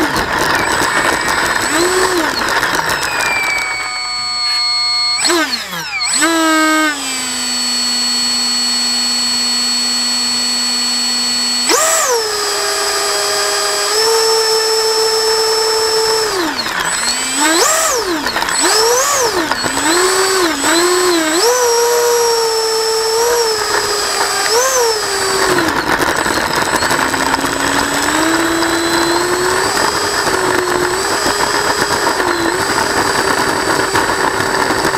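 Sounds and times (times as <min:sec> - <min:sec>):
model plane electric motor whining: 0:00.0 - 0:34.9.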